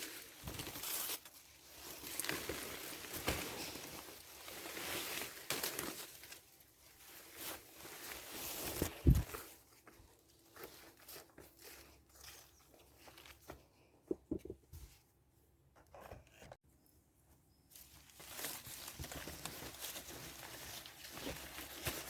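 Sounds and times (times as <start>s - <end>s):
leaves and twigs rustling: 0.0s - 13.6s, 17.7s - 22.0s.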